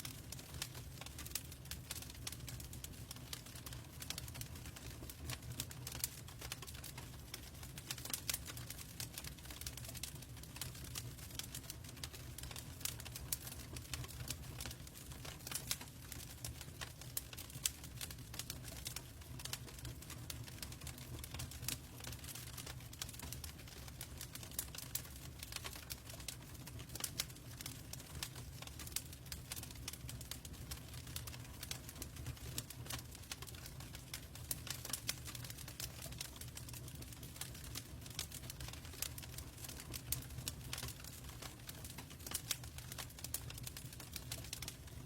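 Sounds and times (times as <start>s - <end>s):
low rumble of burning logs: 0.0s - 45.0s
wood fire crackling: 0.0s - 45.0s.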